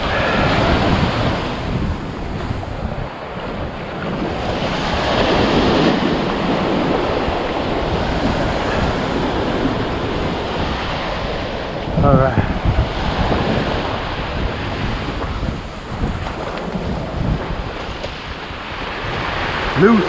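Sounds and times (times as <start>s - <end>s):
surf breaking on sand: 0.0s - 20.0s
wind buffeting microphone: 0.0s - 20.0s.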